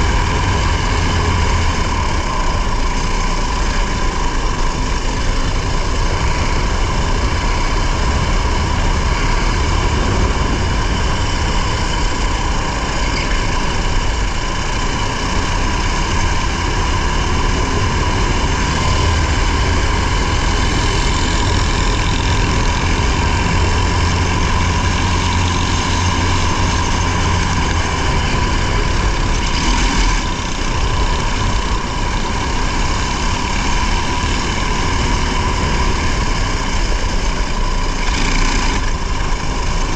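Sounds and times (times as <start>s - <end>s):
racing car engine running hard: 0.0s - 39.9s
tyre and road noise: 0.0s - 39.9s.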